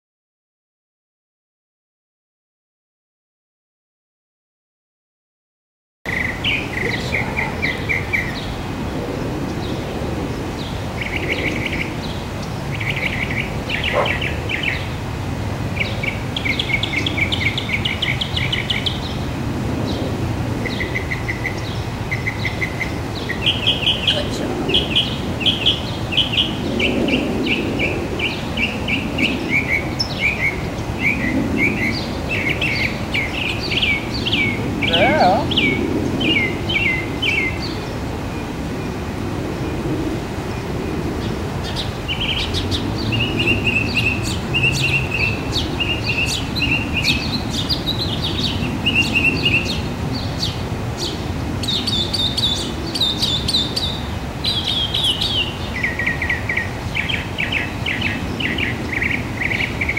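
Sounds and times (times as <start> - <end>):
songbirds chirping: 6.1 - 19.2, 19.8 - 39.0, 39.6 - 59.9.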